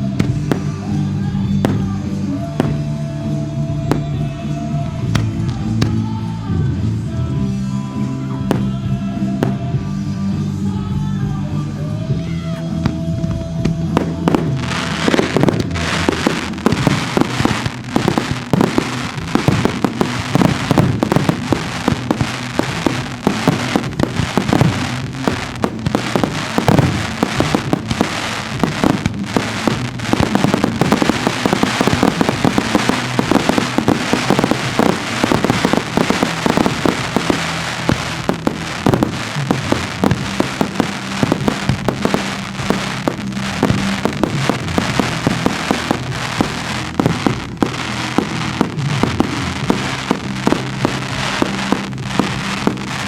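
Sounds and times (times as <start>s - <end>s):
fireworks bursting and crackling: 0.0s - 53.0s
music with low backing: 0.0s - 53.0s.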